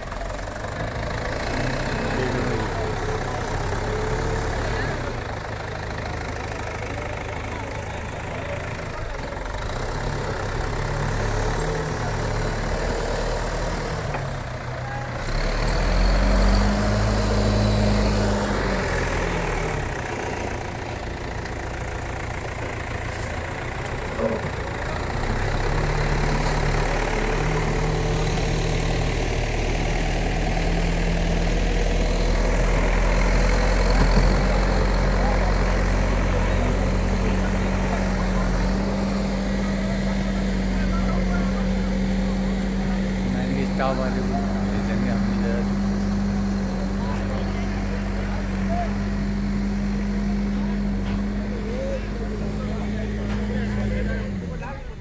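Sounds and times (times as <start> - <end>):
diesel engine running and revving: 0.0 - 55.0.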